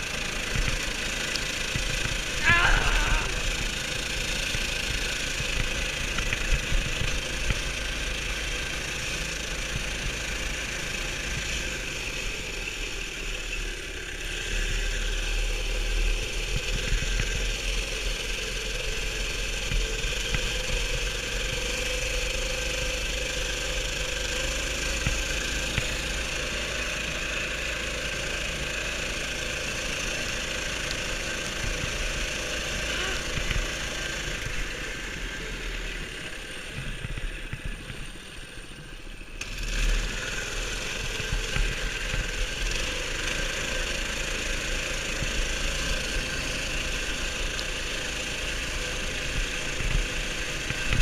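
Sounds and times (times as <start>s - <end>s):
mini bike engine running: 0.0s - 51.0s.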